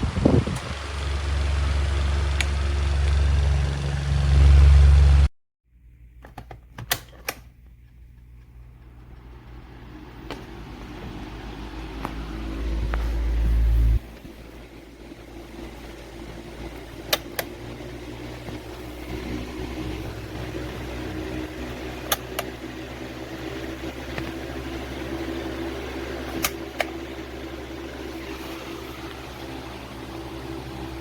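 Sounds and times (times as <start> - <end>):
fan humming: 0.0 - 5.3, 6.8 - 31.0.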